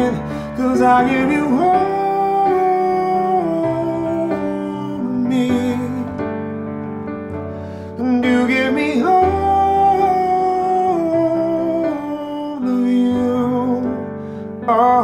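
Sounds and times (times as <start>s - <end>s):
man singing long held notes: 0.0s - 6.4s, 7.8s - 15.0s
soft piano chords: 0.0s - 15.0s.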